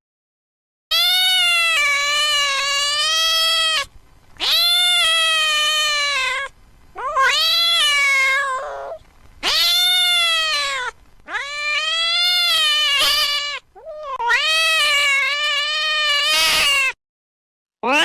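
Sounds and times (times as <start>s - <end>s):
cat yowling: 0.9s - 17.0s.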